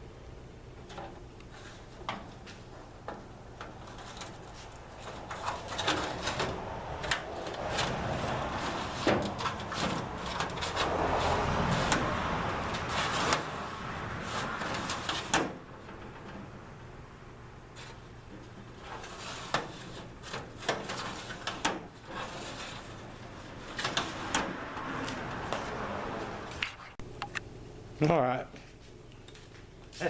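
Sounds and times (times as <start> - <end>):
metal drawer scraping and rattling: 0.9 - 17.1, 17.7 - 27.0.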